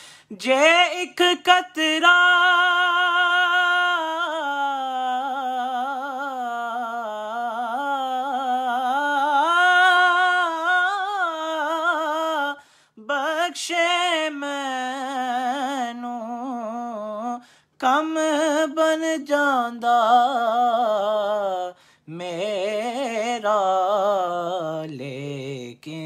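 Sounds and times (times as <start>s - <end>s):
man singing unaccompanied: 0.3s - 26.0s.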